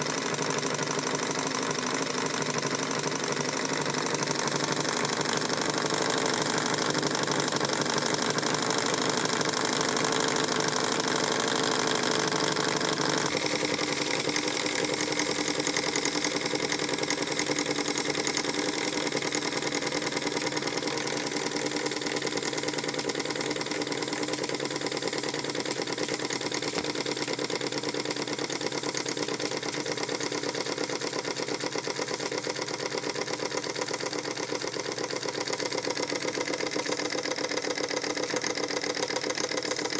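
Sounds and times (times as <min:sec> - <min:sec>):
model steam engine running: 0:00.0 - 0:39.9.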